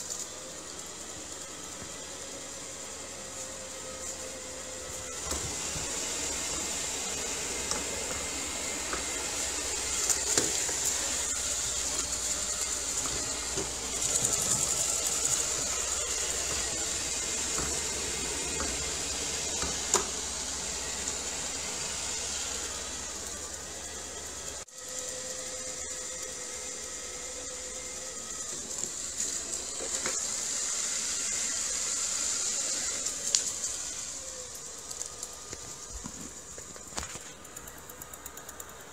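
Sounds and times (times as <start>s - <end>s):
floor cleaner motor running: 0.0s - 38.9s.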